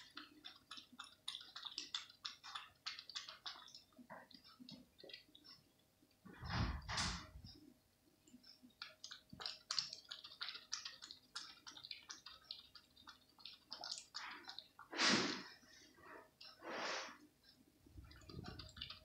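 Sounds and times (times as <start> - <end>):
cat lapping milk: 0.0 - 7.6, 8.3 - 19.0.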